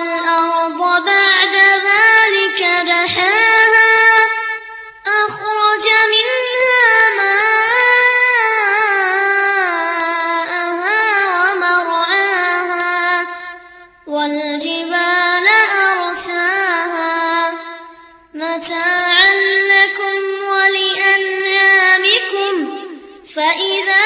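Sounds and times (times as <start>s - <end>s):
high solo singing voice: 0.0s - 24.0s.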